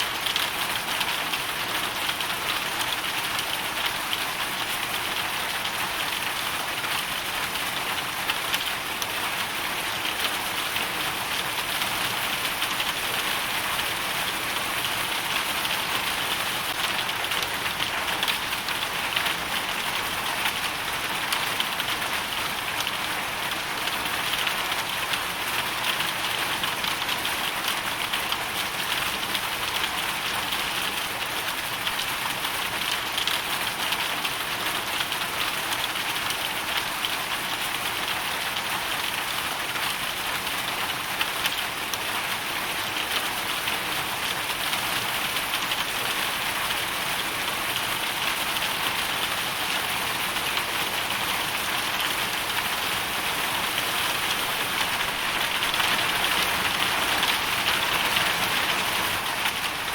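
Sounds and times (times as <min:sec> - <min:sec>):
hailstones and rain striking surface: 0:00.1 - 0:59.9.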